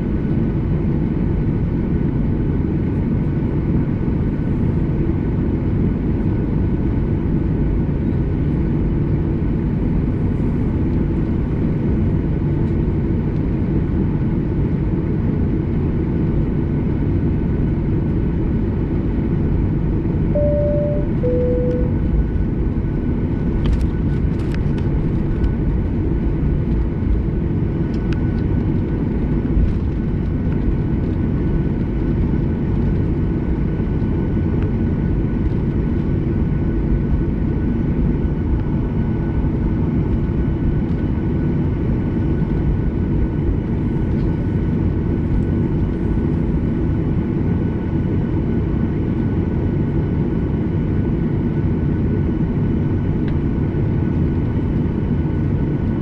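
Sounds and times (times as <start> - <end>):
faint engine whine: 0.0 - 56.0
jet engine rumble in cabin: 0.0 - 56.0.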